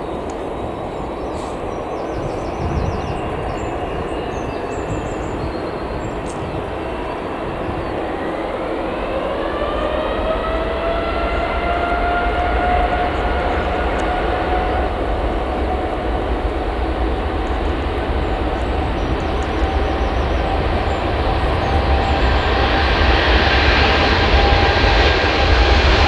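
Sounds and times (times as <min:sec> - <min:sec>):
jet engines spooling up: 0:00.0 - 0:26.0.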